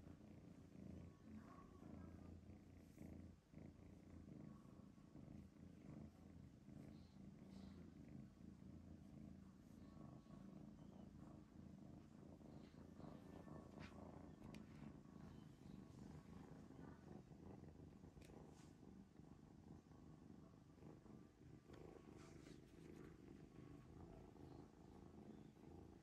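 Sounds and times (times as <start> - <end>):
kitten purring: 0.0 - 26.0.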